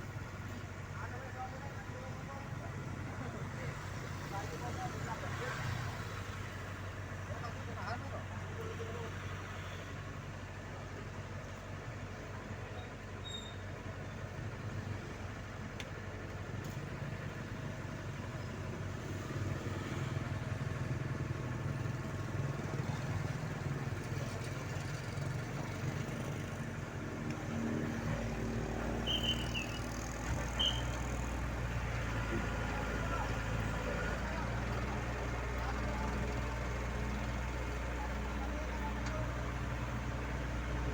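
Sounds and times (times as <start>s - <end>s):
engine running: 6.0s - 40.9s.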